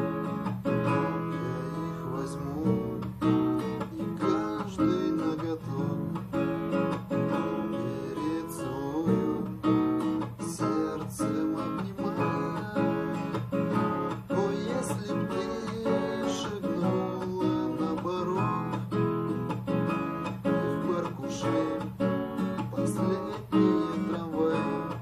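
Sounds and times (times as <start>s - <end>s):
acoustic guitar plucked and strummed: 0.0s - 25.0s.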